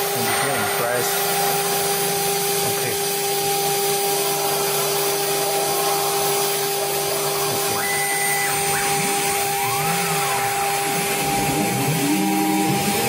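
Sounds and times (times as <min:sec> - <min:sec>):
cnc router whining: 0:00.0 - 0:13.0
faint rising and falling tones: 0:00.0 - 0:13.0.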